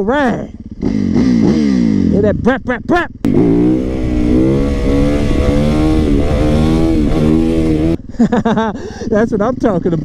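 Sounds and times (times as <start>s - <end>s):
dirt bike engine revving: 0.5s - 8.7s.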